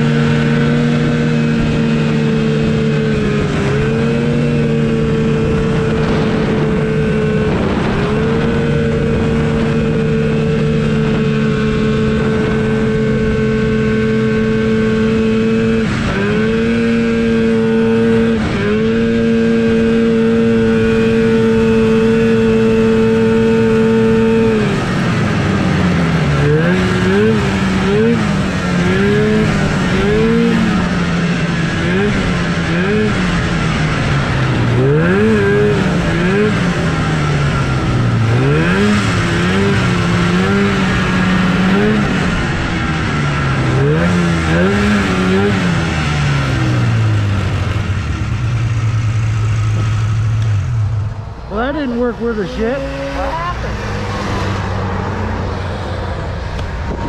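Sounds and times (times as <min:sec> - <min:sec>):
snowmobile two-stroke engine revving: 0:00.0 - 0:57.0.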